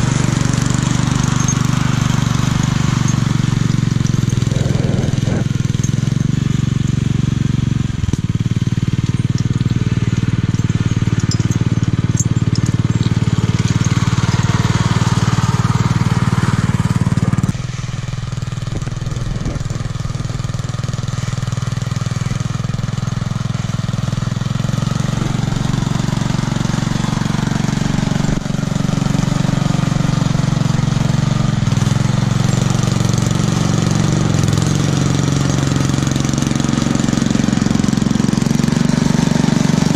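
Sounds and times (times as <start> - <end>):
garden tractor engine running: 0.0 - 39.9
plow blade pushing snow: 0.0 - 39.9.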